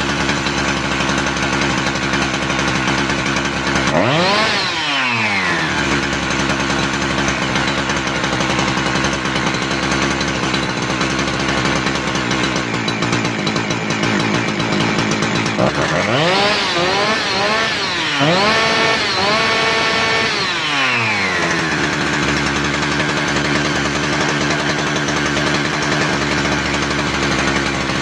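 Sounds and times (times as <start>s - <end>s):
chainsaw engine revving and idling: 0.0s - 28.0s.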